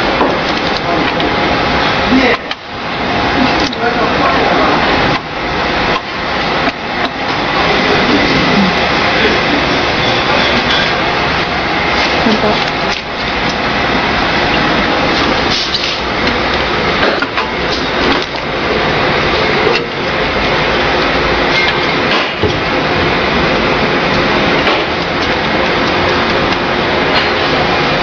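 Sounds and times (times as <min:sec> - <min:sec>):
machine running: 0:00.0 - 0:28.0.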